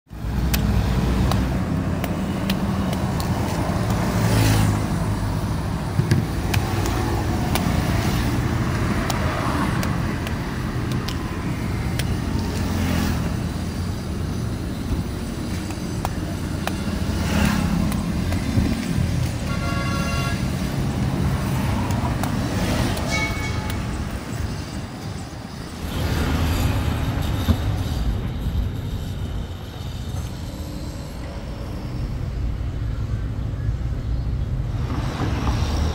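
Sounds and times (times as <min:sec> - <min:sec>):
road traffic passing: 0:00.1 - 0:35.9.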